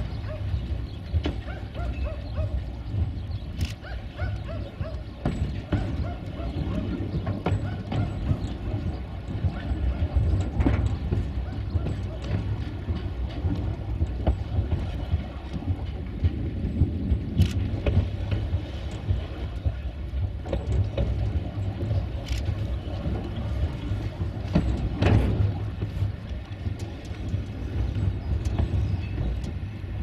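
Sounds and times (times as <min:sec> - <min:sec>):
train rumbling slowly: 0:00.0 - 0:30.0
wheels clicking on rail joints: 0:00.0 - 0:30.0.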